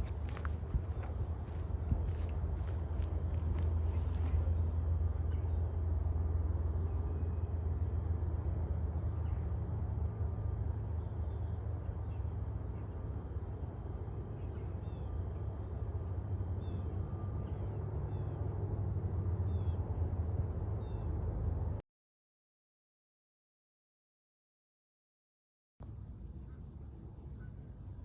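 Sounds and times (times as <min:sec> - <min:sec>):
insect chorus: 0:00.0 - 0:21.8, 0:25.8 - 0:28.0.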